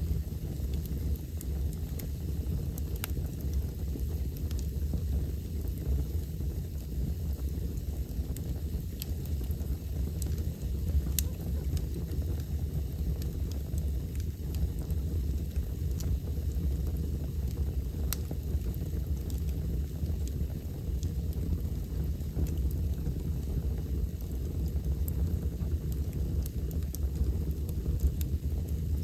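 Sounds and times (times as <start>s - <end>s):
low rumble of fire: 0.0s - 29.0s
wood fire crackling: 0.0s - 29.0s.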